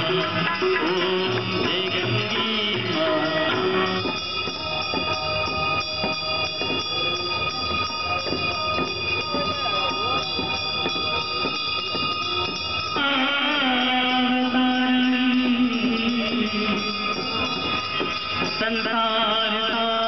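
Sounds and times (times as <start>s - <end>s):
devotional music over loudspeakers: 0.0s - 20.0s
steady high ringing: 0.0s - 20.0s.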